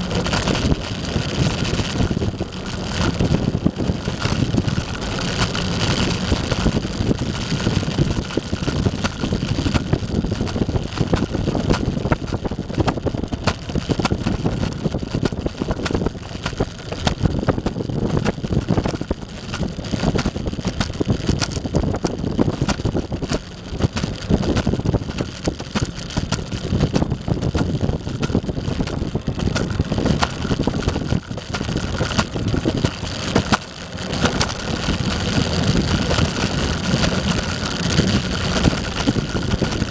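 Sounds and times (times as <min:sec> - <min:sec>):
rattling and clatter: 0:00.0 - 0:39.9
skateboard wheels rumbling on pavement: 0:00.0 - 0:39.9.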